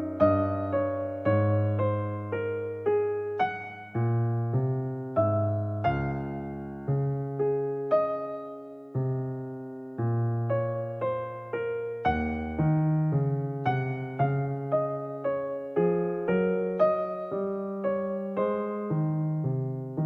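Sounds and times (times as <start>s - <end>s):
gentle electric piano music: 0.0s - 20.0s.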